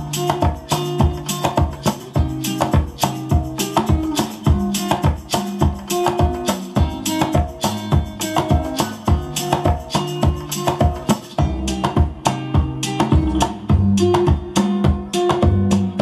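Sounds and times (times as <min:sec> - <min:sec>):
guitar song through speakers: 0:00.0 - 0:16.0.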